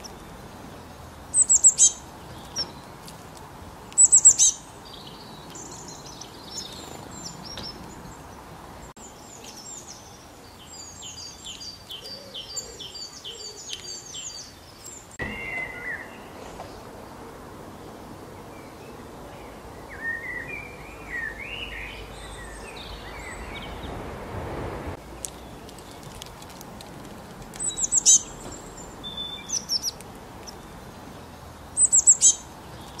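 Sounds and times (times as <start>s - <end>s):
birds chirping: 0.0s - 33.0s
outdoor background hiss: 0.0s - 33.0s.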